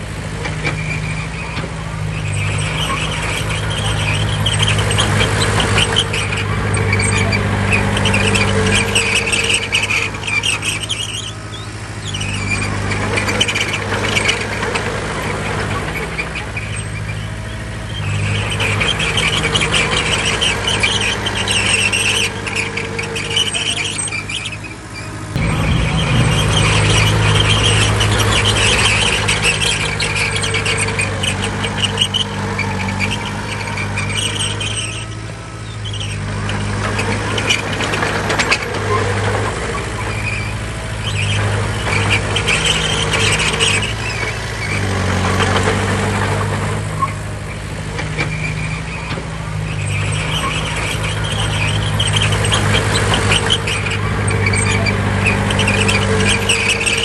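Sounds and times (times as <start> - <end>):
diesel machine engine running: 0.0 - 57.0
high-pitched squeal: 0.6 - 57.0.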